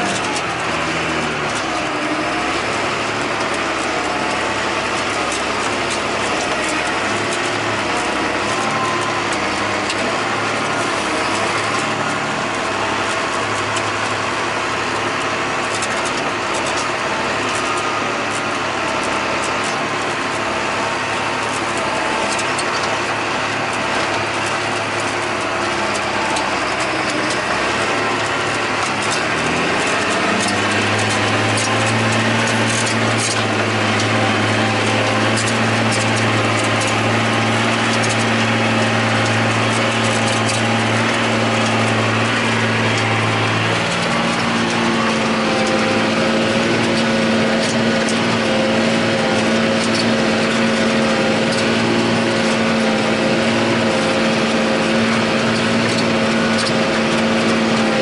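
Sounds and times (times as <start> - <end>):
tractor diesel engine drone: 0.0 - 58.0.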